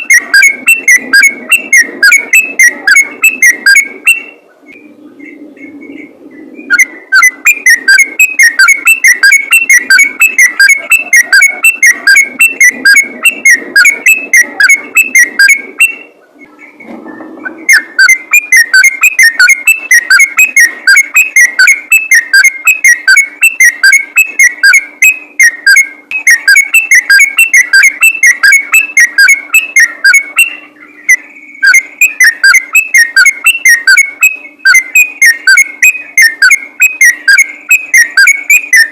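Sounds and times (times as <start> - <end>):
bird singing whistled notes: 0.0 - 38.9
faint low hum: 0.0 - 38.9.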